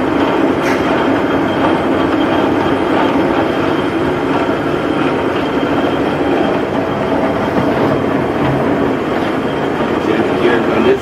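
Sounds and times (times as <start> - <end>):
lathe running with high whine: 0.0 - 11.0.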